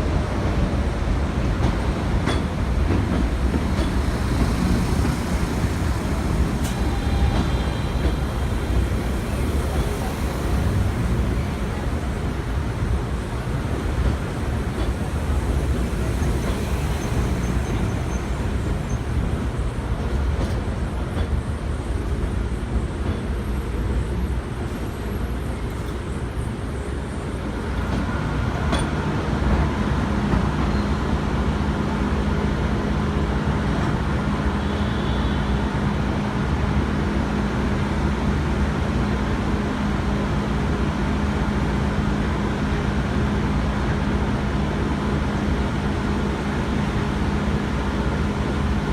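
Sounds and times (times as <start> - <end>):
train low rumble: 0.0 - 48.9.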